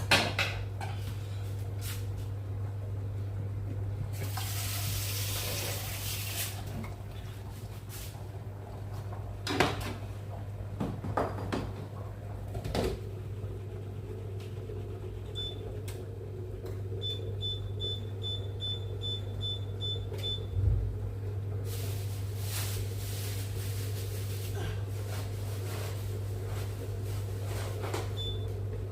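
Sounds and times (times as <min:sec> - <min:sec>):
low electrical hum: 0:00.0 - 0:28.9.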